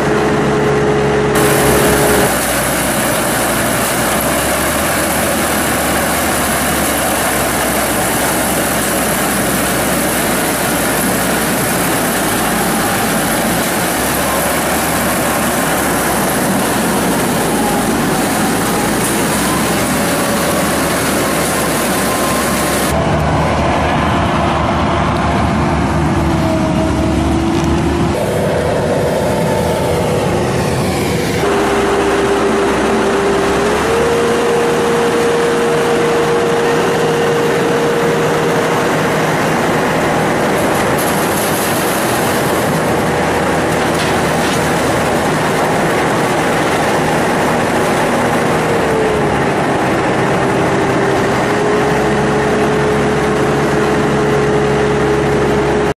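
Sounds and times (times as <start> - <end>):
harvester engine drone: 0.0 - 56.0.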